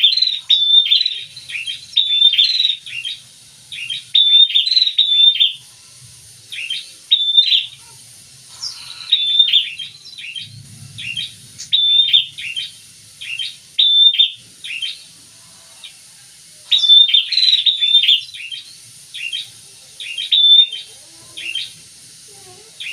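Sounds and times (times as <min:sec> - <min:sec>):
birds chirping rapidly: 0:00.0 - 0:05.6, 0:06.4 - 0:15.2, 0:16.7 - 0:21.8.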